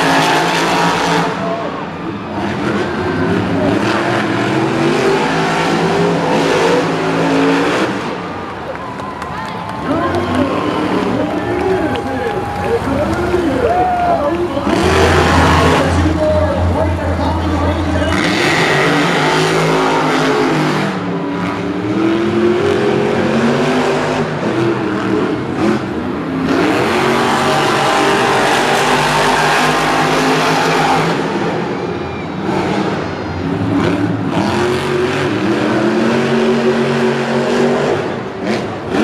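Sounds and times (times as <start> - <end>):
monster truck engines revving: 0.0 - 39.0.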